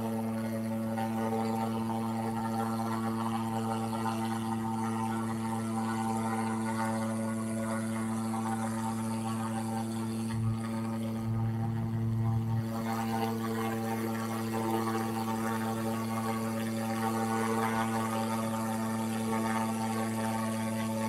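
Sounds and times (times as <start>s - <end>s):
low droning hum: 0.0s - 21.0s.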